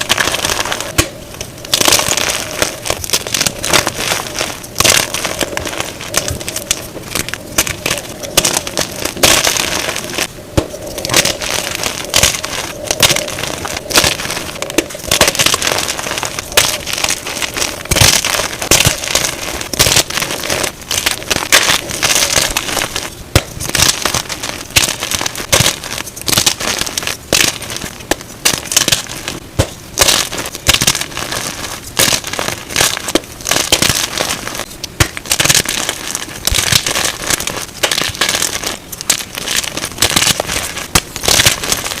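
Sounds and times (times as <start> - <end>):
chalk crushing and crackling: 0.0 - 42.0.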